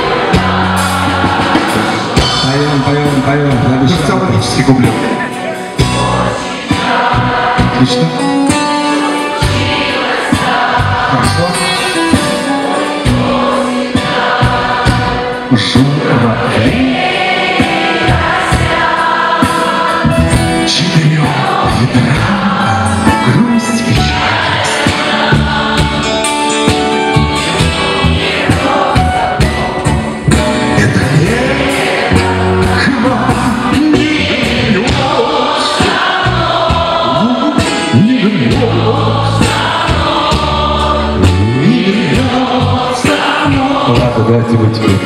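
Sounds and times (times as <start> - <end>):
audience singing along: 0.0 - 45.0
live band playing pop song: 0.0 - 45.0.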